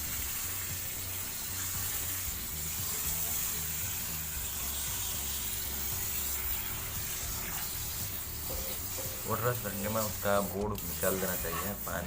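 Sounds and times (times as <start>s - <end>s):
water spraying from a hose: 0.0s - 12.0s.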